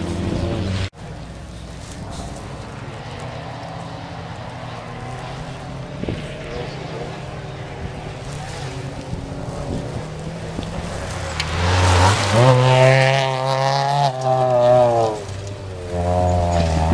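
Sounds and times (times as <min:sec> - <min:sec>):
rally car engine passing on gravel: 0:00.0 - 0:16.9.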